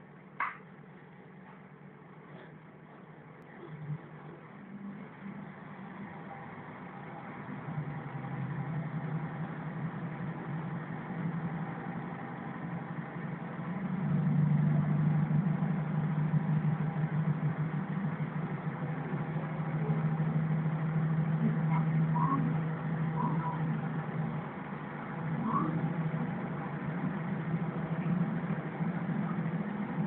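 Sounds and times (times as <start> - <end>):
railcar diesel engine humming: 0.0 - 30.0.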